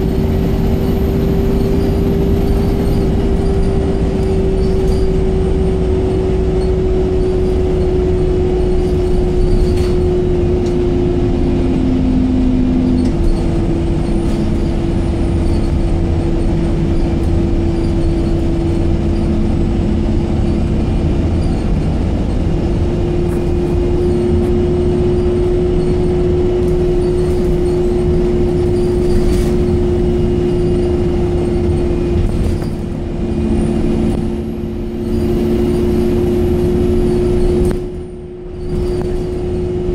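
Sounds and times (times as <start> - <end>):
bus engine whine: 0.0 - 39.9
road rumble: 0.0 - 39.9.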